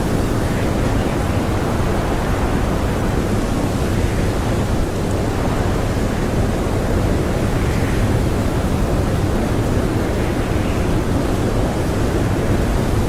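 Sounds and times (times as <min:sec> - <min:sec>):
strong blizzard wind: 0:00.0 - 0:13.0.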